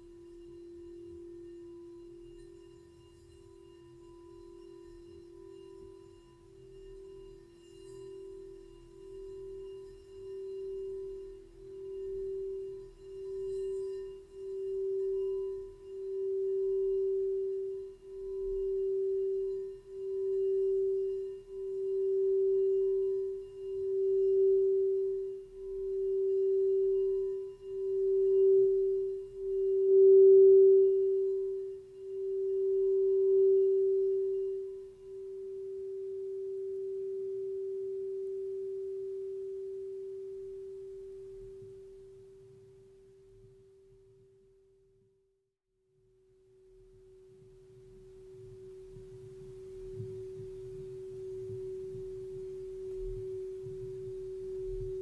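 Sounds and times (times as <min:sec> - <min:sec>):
singing bowl tone: 0:00.0 - 0:44.3, 0:46.8 - 0:55.0.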